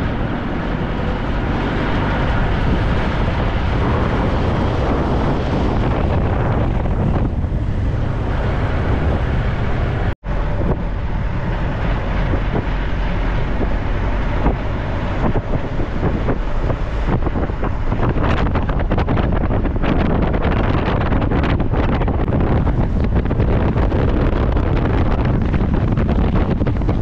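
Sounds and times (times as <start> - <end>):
motorhome driving: 0.0 - 27.0
road noise: 0.0 - 27.0
wind buffeting microphone: 0.0 - 27.0.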